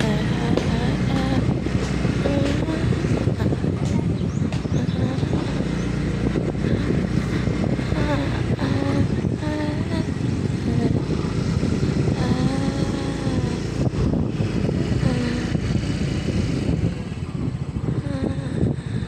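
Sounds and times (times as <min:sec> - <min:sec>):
small motorcycle engine running: 0:00.0 - 0:18.8
wind rumbling on microphone: 0:00.0 - 0:19.0.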